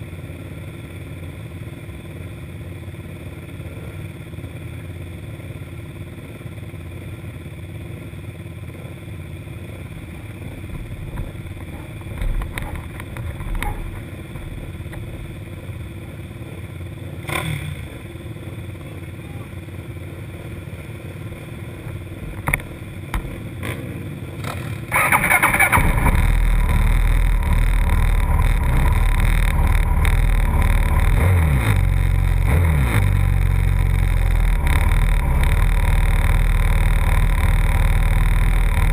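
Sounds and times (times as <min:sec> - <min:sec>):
quad engine idling and revving: 0:00.0 - 0:38.9.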